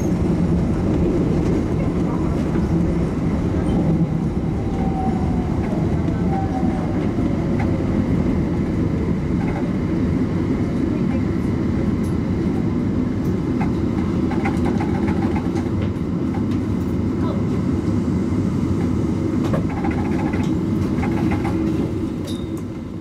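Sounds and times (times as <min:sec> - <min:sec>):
train running rumble: 0:00.0 - 0:23.0.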